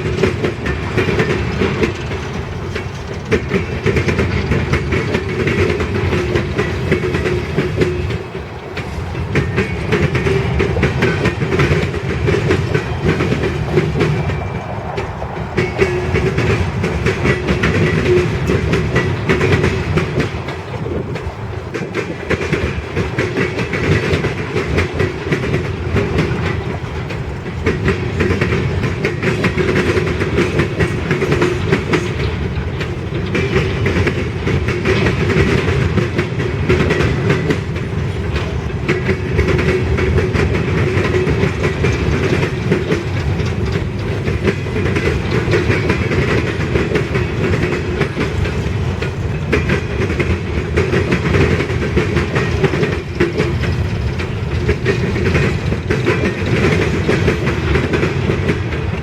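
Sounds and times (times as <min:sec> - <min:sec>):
freight train rolling past: 0:00.0 - 0:59.0
wheels clicking over rail joints: 0:00.0 - 0:59.0.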